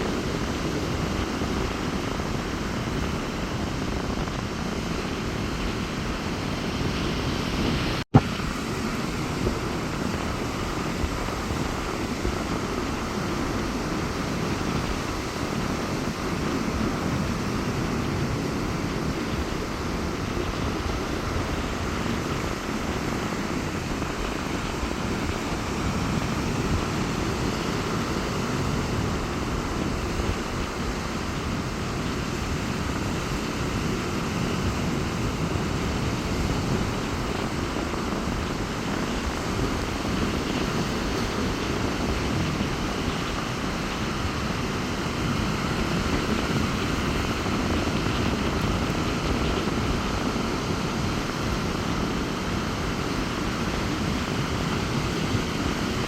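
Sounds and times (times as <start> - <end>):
waves breaking on beach: 0.0 - 56.0
wind rumbling on microphone: 0.0 - 56.0.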